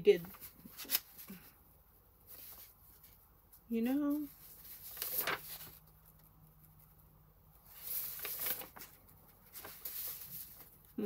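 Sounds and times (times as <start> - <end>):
paper rustling: 0.2 - 1.5, 2.2 - 11.0.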